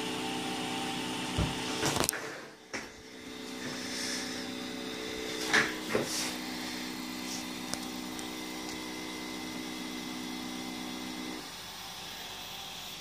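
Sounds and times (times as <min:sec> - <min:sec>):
small motor humming: 0:00.0 - 0:13.0.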